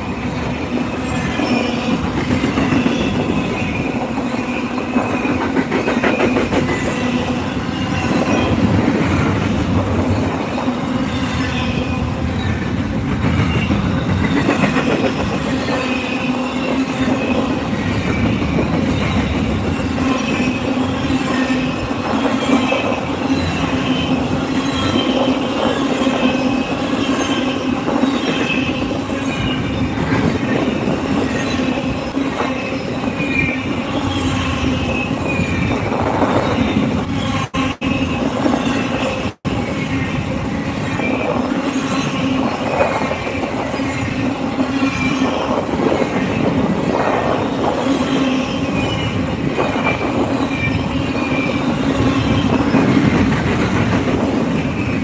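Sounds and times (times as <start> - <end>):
freight train rumbling past: 0.0 - 55.0
train wheels squealing: 0.0 - 55.0.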